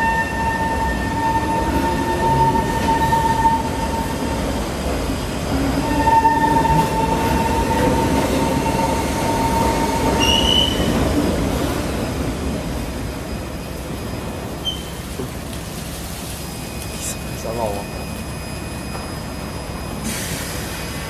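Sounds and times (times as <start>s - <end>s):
metro train wheels squealing: 0.0s - 21.0s
rumble of train cars: 0.0s - 21.0s.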